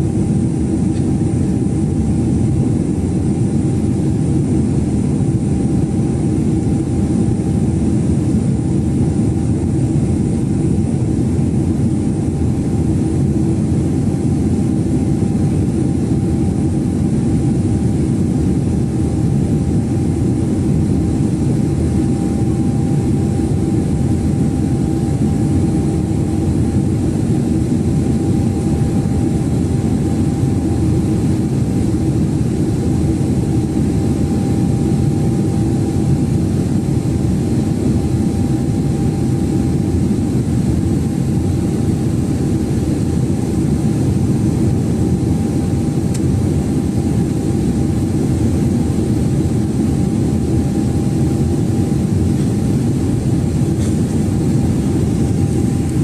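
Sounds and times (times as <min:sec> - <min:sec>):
faint steady whine: 0:00.0 - 0:56.0
jet engines and airflow rumble: 0:00.0 - 0:56.0.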